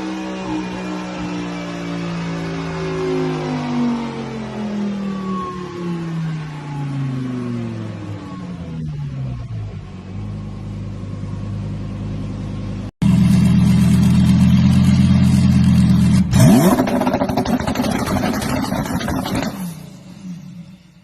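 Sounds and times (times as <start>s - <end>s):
sports car engine revving: 0.0s - 20.2s.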